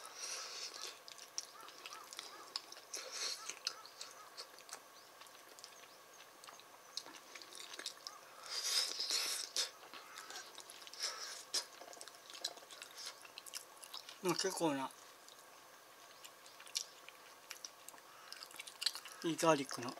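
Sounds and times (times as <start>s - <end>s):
person chewing: 0.0s - 19.9s.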